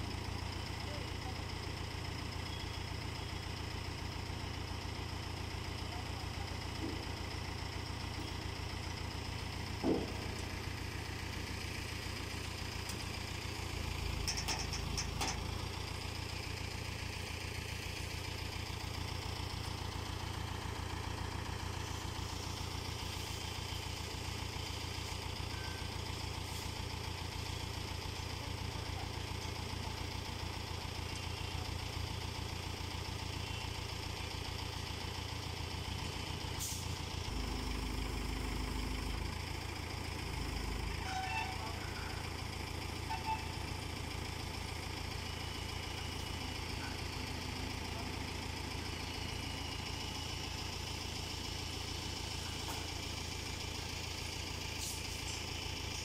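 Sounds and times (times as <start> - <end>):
diesel crane engine idling: 0.0 - 56.0.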